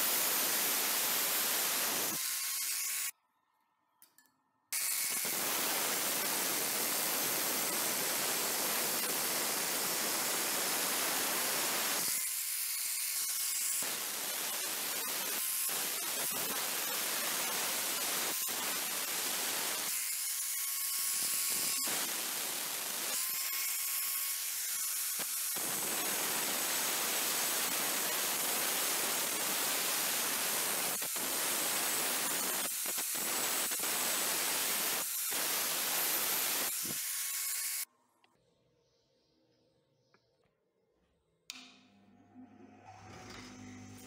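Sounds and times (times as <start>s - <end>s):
angle grinder cutting steel: 0.0s - 3.2s, 4.7s - 37.9s.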